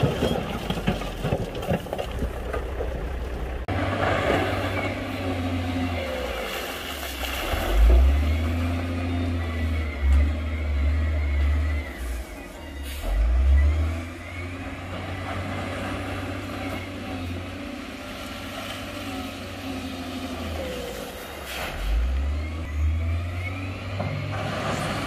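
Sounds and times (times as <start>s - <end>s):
heavy diesel engine rumbling: 0.0s - 25.0s.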